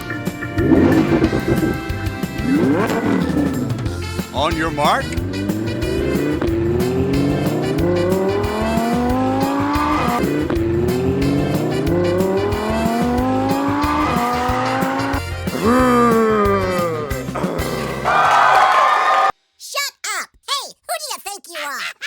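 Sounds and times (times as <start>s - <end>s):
background music: 0.0s - 18.8s
race car engine accelerating: 0.2s - 18.5s.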